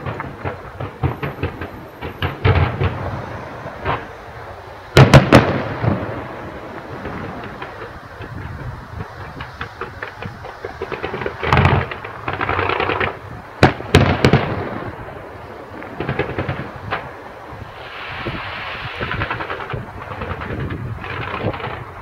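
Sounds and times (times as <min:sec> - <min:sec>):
firework bangs: 0:00.0 - 0:22.0
fireworks crackling pops: 0:00.0 - 0:22.0.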